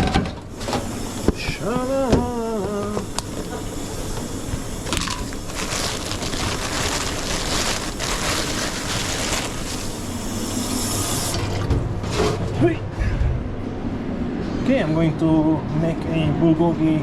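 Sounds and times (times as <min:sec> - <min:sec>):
commercial kitchen background noise: 0:00.0 - 0:17.0.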